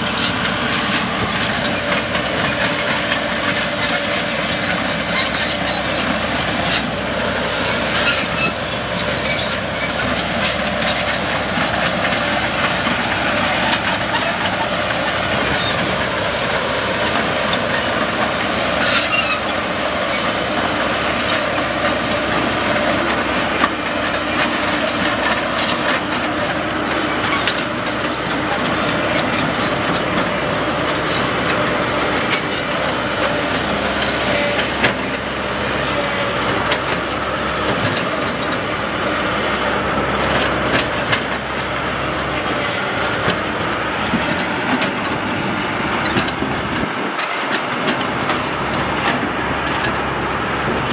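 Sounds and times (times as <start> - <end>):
diesel engine running: 0.0 - 50.9
steel tracks clattering: 0.0 - 50.9.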